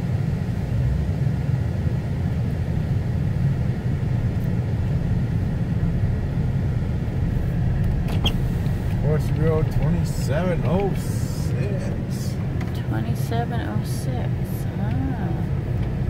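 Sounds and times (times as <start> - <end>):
vehicle engine and tyres rumbling: 0.0 - 16.0.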